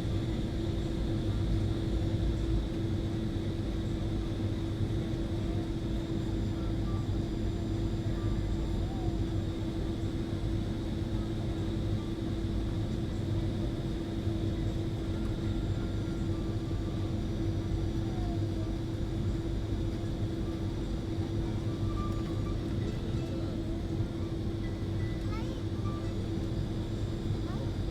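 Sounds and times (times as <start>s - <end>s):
airliner cabin engine rumble: 0.0s - 27.9s.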